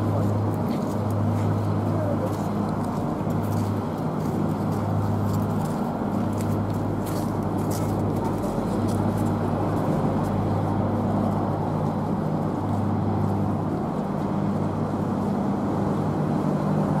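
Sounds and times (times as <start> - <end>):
hovercraft engine humming: 0.0 - 17.0.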